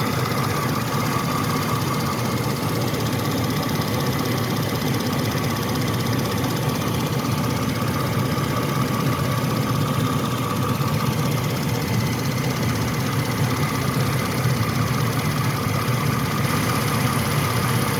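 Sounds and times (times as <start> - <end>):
engine ticking: 0.0 - 17.9
pickup truck engine idling: 0.0 - 17.9.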